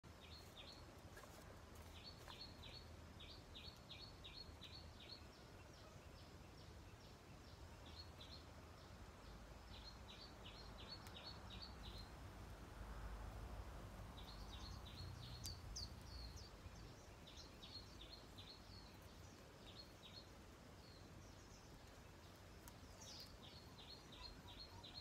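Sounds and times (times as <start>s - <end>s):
bird chirping: 0.0s - 12.2s, 14.1s - 25.0s.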